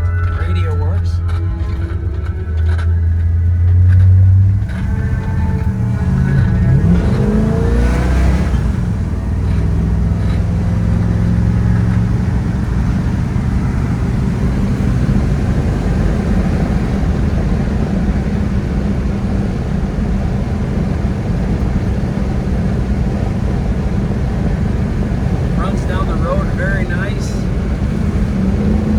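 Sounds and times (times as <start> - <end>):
car engine accelerating: 0.0 - 28.9
road noise: 0.0 - 28.9.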